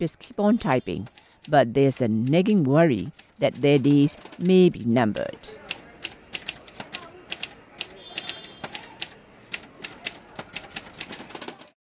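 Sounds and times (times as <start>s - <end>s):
typewriter keys clicking: 1.0s - 11.8s.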